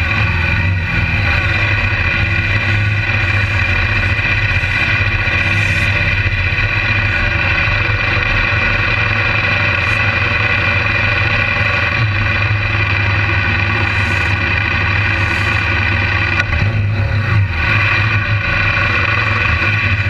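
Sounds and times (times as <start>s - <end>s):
motorcycle engines droning: 0.0s - 20.0s.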